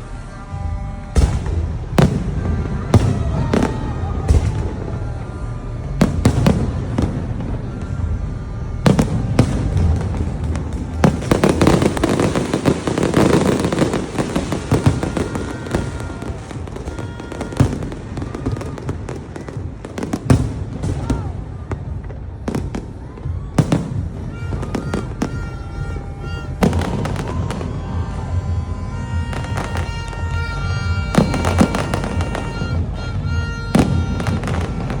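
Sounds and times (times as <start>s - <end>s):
fireworks exploding: 0.1s - 35.0s.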